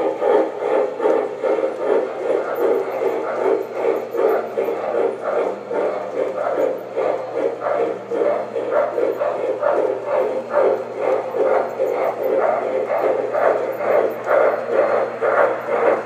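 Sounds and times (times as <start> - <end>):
model steam locomotive chuffing: 0.0 - 16.0
model train humming: 0.0 - 16.0.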